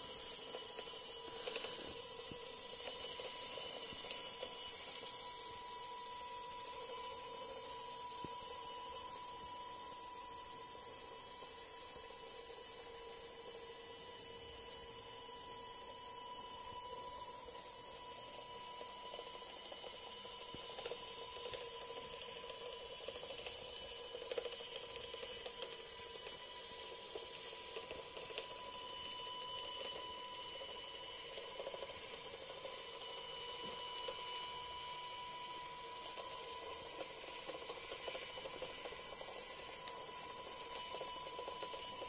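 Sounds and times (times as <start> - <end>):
toy monorail motor whining: 0.0 - 42.0.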